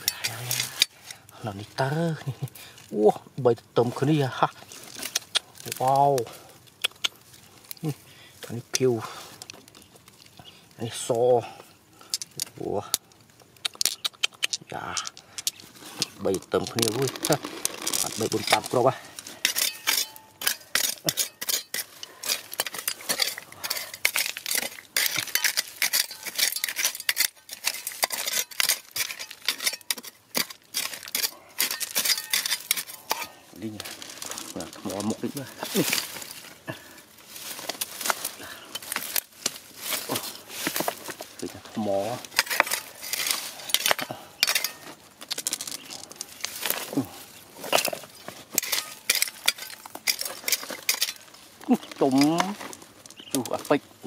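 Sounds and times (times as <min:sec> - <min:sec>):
metal tool scraping stony soil: 0:00.0 - 0:03.2, 0:03.8 - 0:13.0, 0:13.6 - 0:54.0
loose earth pattering: 0:00.0 - 0:54.0.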